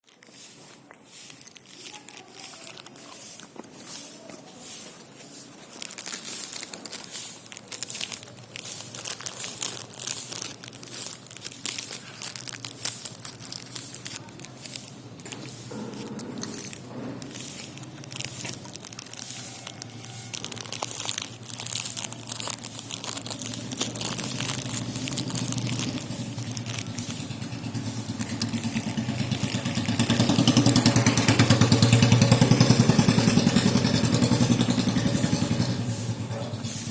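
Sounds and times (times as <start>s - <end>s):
puppy crunching a biscuit: 0.0s - 36.5s.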